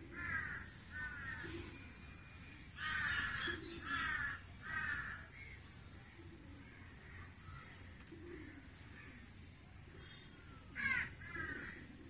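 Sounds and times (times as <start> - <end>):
bird harsh caw-like calls: 0.0 - 1.9, 2.7 - 12.0.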